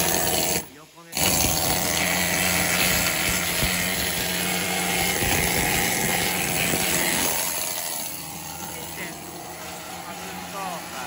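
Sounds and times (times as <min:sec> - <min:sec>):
air hammer chipping steel: 0:00.0 - 0:11.0.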